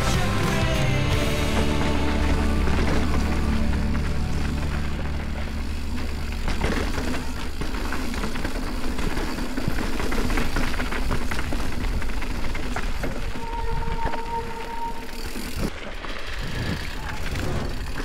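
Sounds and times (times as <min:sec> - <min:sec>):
bike tyres rolling over dirt and rock: 0:00.0 - 0:18.0
bike and chain rattling: 0:01.2 - 0:18.0.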